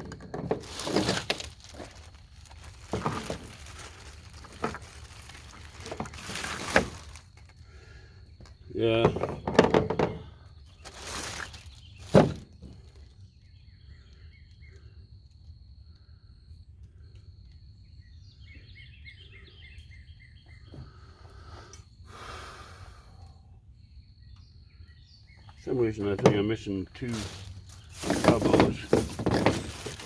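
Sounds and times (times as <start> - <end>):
birds chirping: 0.7 - 15.2, 17.1 - 30.0.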